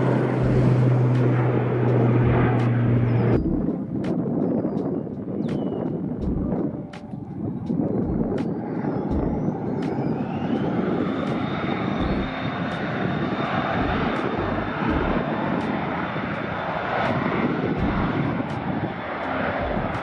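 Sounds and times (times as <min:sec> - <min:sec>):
high-pitched engine whine: 0:00.0 - 0:20.0
jet engines rushing: 0:00.0 - 0:20.0.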